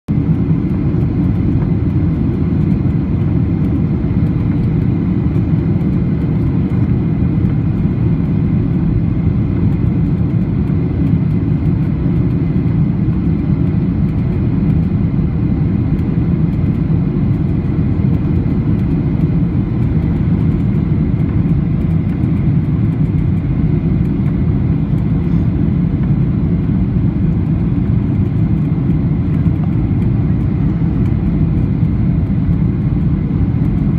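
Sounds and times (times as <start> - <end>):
airflow over fuselage: 0.1 - 33.9
airliner cabin engine rumble: 0.1 - 33.9.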